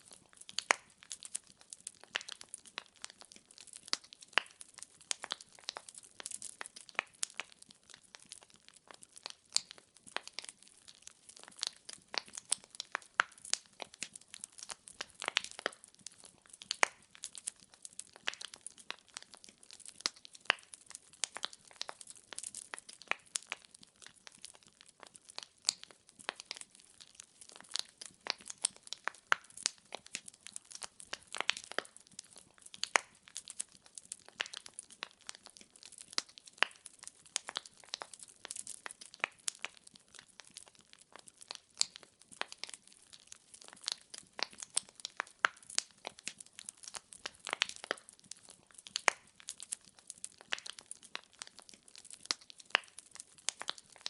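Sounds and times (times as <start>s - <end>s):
faint steady hiss: 0.0s - 54.0s
firewood crackling and popping: 0.0s - 54.0s.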